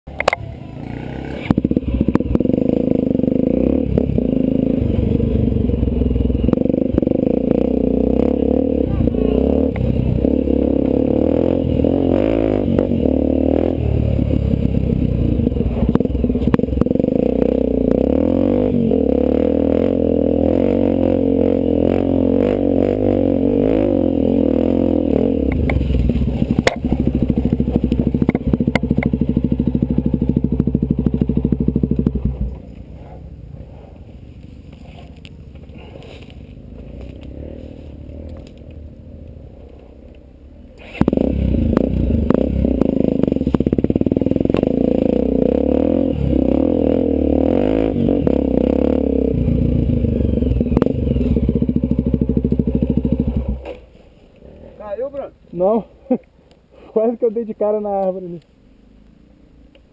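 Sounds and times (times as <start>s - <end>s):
off-road vehicle engine revving: 0.1s - 33.0s, 35.4s - 56.2s.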